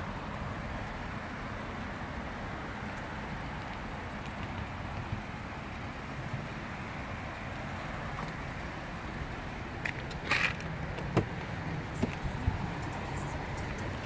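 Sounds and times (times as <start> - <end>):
low vehicle hum: 0.0 - 14.0.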